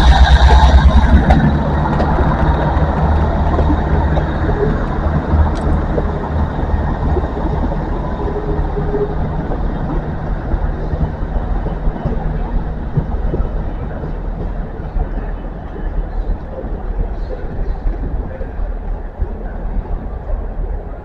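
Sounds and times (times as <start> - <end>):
diesel train engine rumbling: 0.0 - 21.0.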